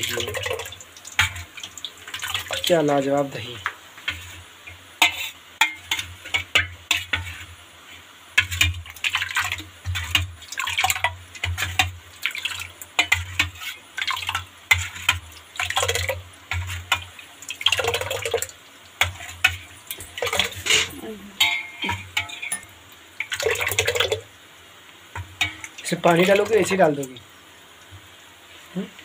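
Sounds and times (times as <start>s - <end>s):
curd churned in steel vessel: 0.0s - 24.3s, 25.1s - 27.3s.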